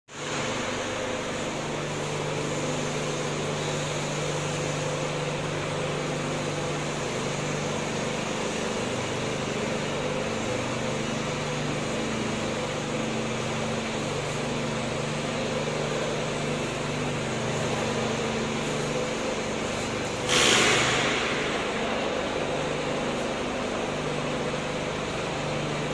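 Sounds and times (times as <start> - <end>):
mechanical hum with hiss: 0.1 - 25.9.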